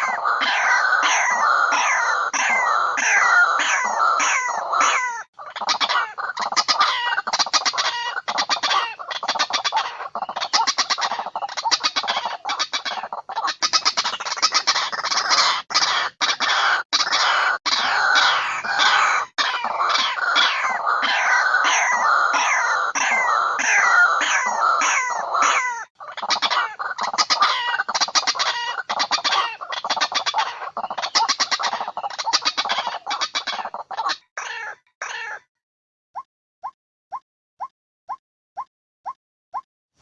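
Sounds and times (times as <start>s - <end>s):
downward-sliding bird calls: 0.0s - 35.4s
waterhen clucking calls: 0.0s - 35.5s.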